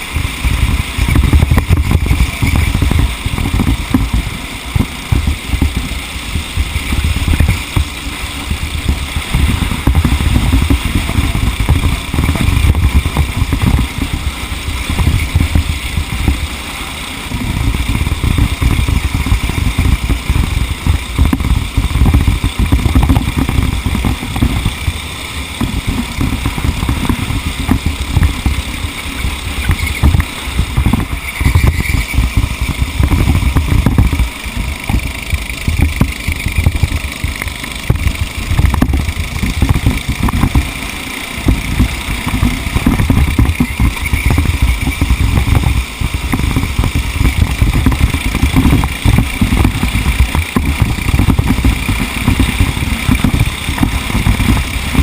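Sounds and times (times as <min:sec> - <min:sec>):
kart engine running at speed: 0:00.0 - 0:55.0
wind buffeting on microphone: 0:00.0 - 0:55.0.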